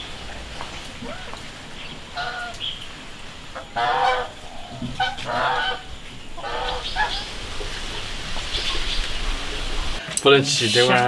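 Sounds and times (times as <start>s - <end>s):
loud bird calls: 0.0s - 10.0s.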